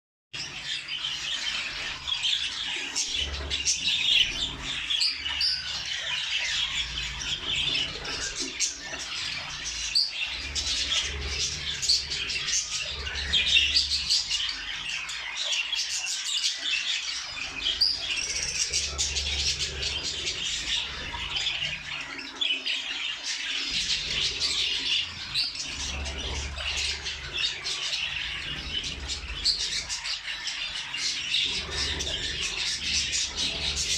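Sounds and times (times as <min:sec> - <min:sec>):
flock of small birds chirping: 0:00.3 - 0:33.9.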